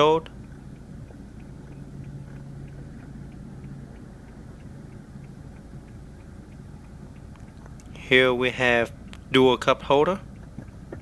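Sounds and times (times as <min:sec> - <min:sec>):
faint regular ticks: 0:00.0 - 0:11.0
steady low tone: 0:00.0 - 0:11.0.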